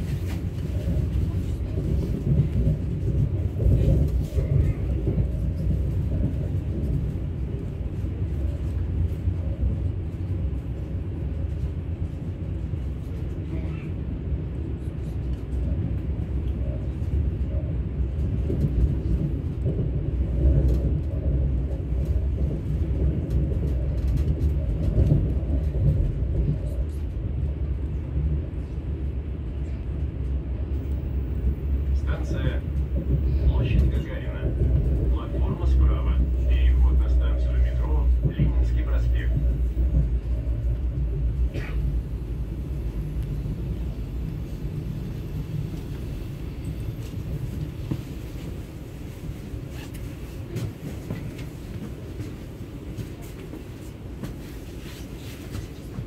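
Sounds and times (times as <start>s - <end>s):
electric train rumbling on track: 0.0s - 56.0s.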